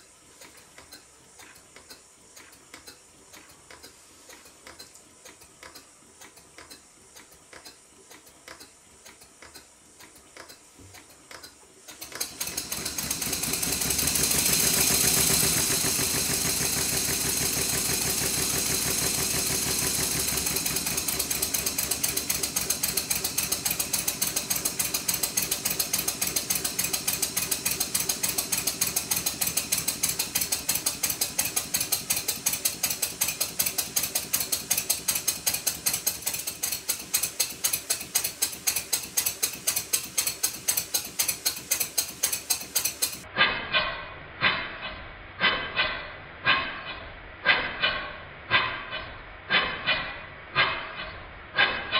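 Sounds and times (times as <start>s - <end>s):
model steam engine exhaust beat: 0.0s - 51.9s.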